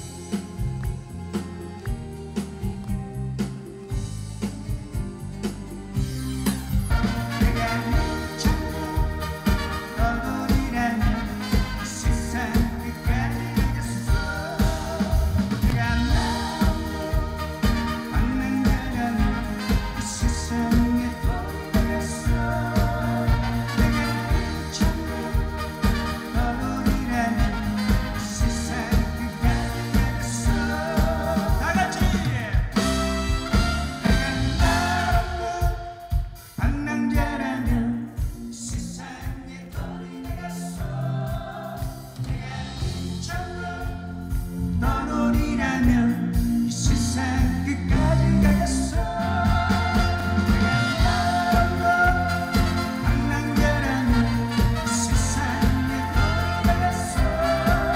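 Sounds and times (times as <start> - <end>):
live band music: 0.0 - 57.9
drum beat: 6.5 - 45.0, 46.8 - 57.9
person singing: 6.9 - 57.9.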